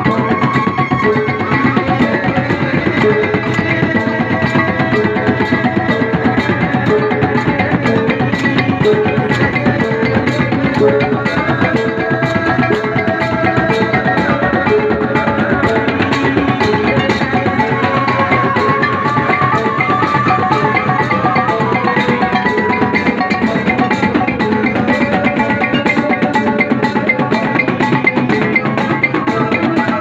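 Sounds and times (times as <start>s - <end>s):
drums beaten with sticks: 0.0s - 30.0s
repeating melodic line: 0.0s - 30.0s.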